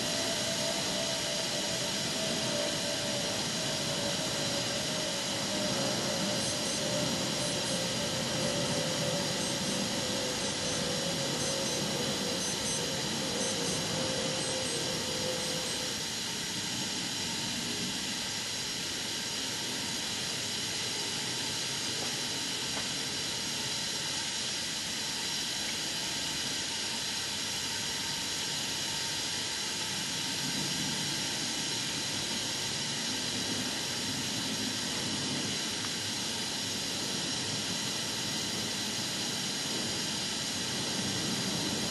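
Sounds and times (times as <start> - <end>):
steam hissing from locomotive: 0.0 - 41.9.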